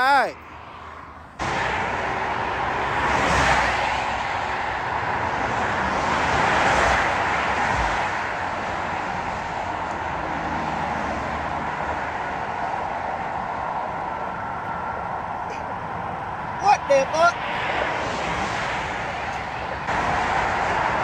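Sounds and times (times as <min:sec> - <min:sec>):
highway traffic passing: 0:00.0 - 0:21.0.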